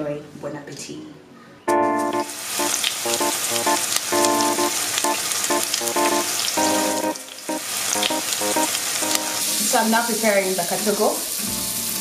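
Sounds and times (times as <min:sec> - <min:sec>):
instrumental background music: 0:01.7 - 0:12.0
vegetables sizzling in oil: 0:02.0 - 0:12.0.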